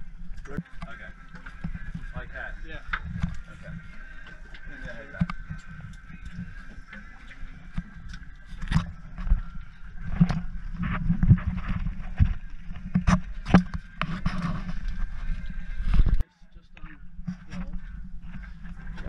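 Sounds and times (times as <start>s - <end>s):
knocks and scrapes on boat deck: 0.8s - 16.2s, 17.2s - 19.0s.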